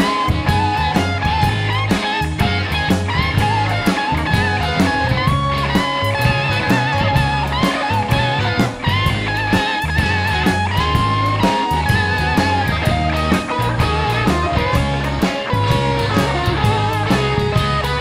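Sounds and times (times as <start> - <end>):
bass guitar: 0.0 - 18.0
drum beat: 0.0 - 18.0
electric guitar lead: 0.0 - 18.0.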